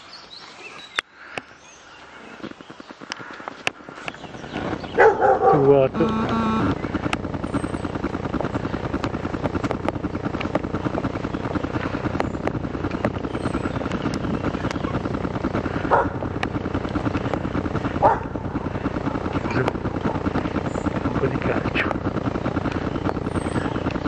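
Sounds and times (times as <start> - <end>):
scattered clicks: 2.5 - 4.9, 5.6 - 24.0
pulsing mechanical drone: 4.0 - 24.0.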